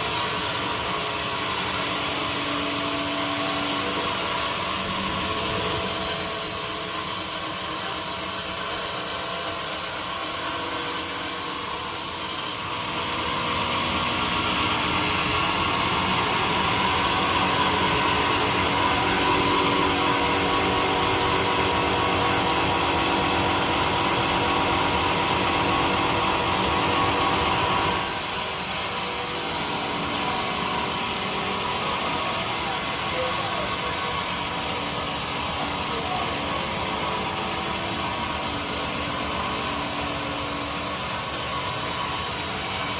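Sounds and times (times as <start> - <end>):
power tool cutting wood: 0.0 - 12.6, 14.8 - 42.9.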